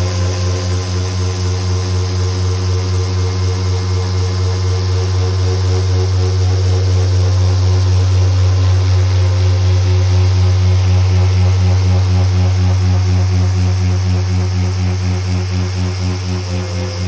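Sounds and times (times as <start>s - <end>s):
router spindle machine hum: 0.0s - 17.0s.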